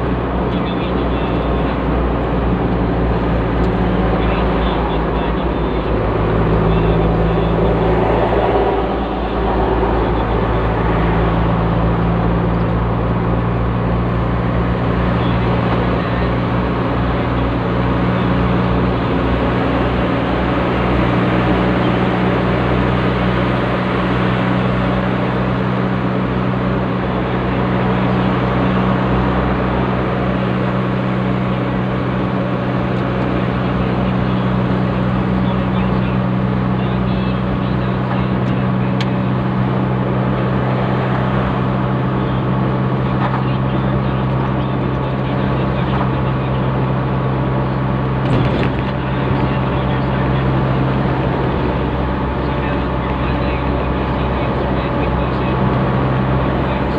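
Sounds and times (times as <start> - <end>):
diesel engine droning: 0.0 - 56.9
tyre and road noise: 0.0 - 56.9.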